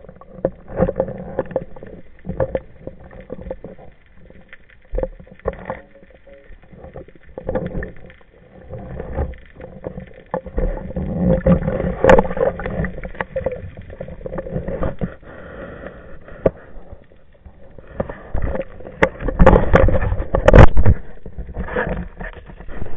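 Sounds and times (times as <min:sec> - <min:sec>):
muffled underwater knocks and rubs: 0:00.0 - 0:15.2, 0:16.4 - 0:22.9
underwater water swirl: 0:00.0 - 0:22.9.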